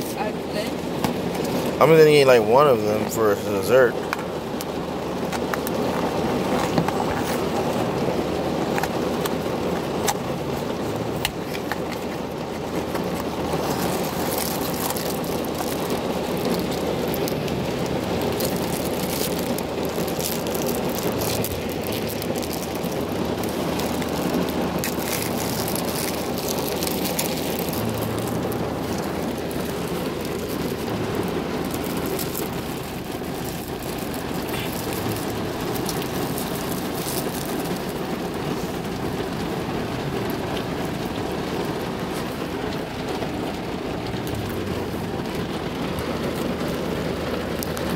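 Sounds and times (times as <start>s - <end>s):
rain on a car roof: 0.0s - 47.9s.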